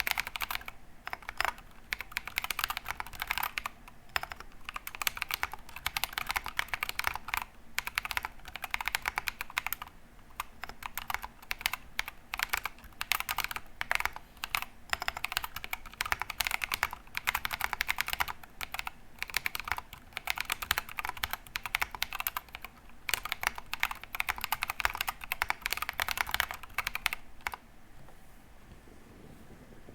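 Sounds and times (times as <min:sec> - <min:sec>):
mechanical keyboard typing: 0:00.0 - 0:27.6.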